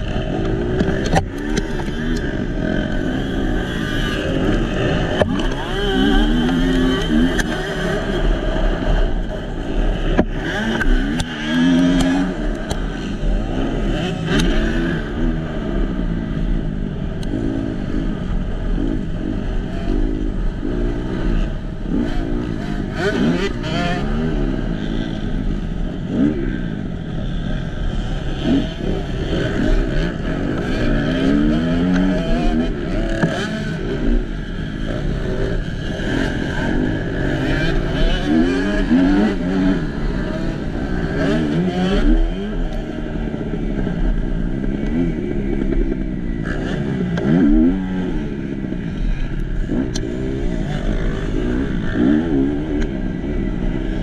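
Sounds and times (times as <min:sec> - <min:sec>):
motocross bike engine revving: 0:00.0 - 0:54.0
other motocross bike engines: 0:00.0 - 0:54.0.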